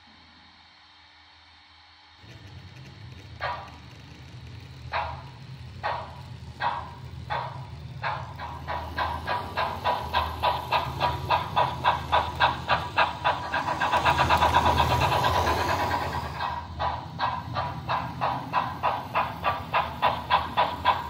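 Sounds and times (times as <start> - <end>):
model steam locomotive chuffs: 0.6 - 21.0.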